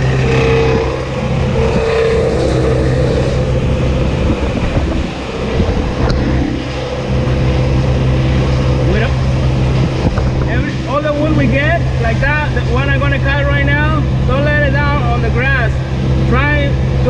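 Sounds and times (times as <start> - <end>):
truck engine humming with whine: 0.0 - 17.0.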